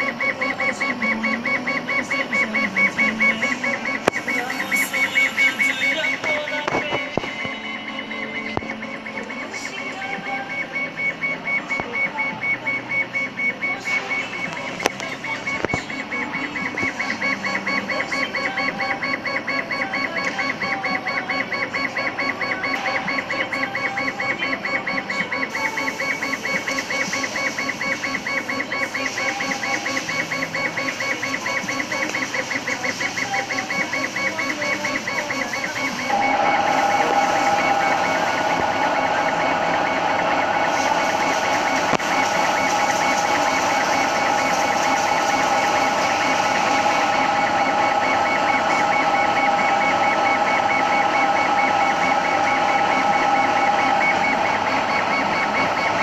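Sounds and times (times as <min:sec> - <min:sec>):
laser engraver head whirring: 0:00.0 - 0:56.0
steady machine hum: 0:00.0 - 0:56.0.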